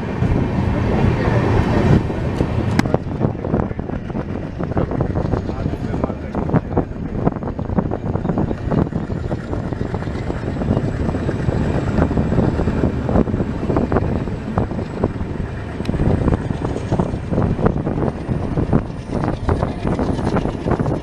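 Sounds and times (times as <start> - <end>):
train wheels rumbling: 0.0 - 21.0
wind buffeting microphone: 0.0 - 21.0.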